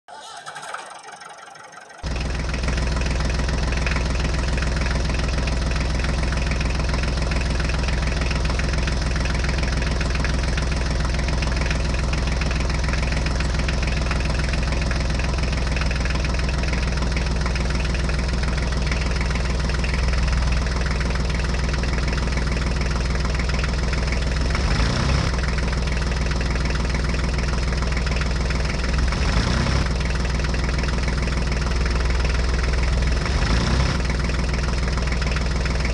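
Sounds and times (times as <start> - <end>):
tractor engine idling: 0.0 - 35.9.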